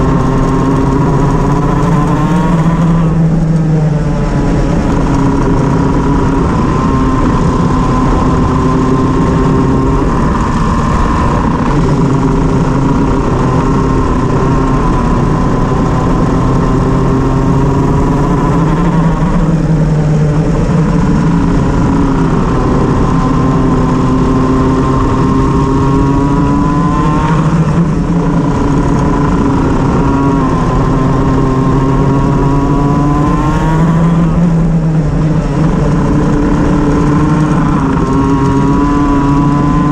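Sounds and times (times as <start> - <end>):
kart engine revving with misfire: 0.0 - 39.9.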